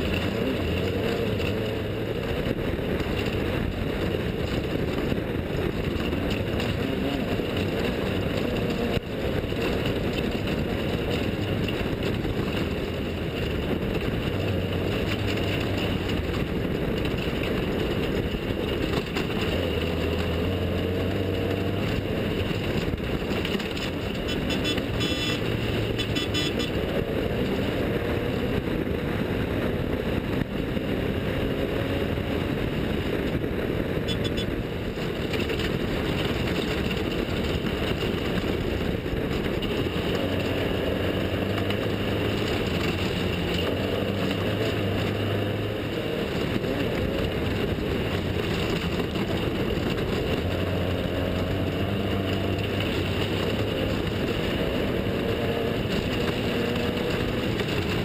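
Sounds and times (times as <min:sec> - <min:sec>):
vehicle engine running hard: 0:00.0 - 0:58.0
wind and dirt noise: 0:00.0 - 0:58.0.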